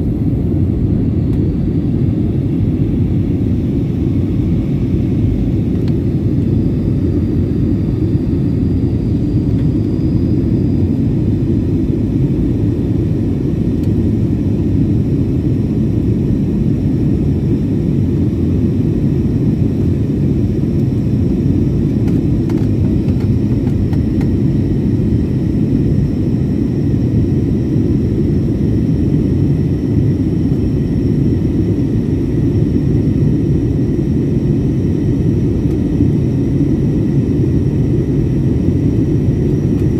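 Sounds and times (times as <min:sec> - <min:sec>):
engine and airflow rumble: 0:00.0 - 0:39.9
faint high whine: 0:00.0 - 0:39.9.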